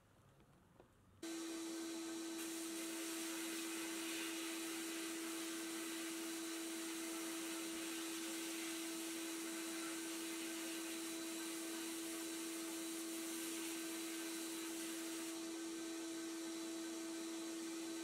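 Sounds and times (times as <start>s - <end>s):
sandblasting hiss: 1.2s - 18.0s.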